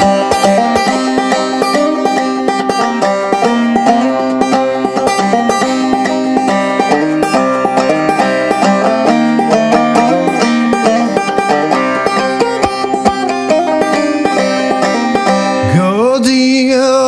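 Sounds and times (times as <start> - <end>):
banjos playing: 0.0 - 17.0.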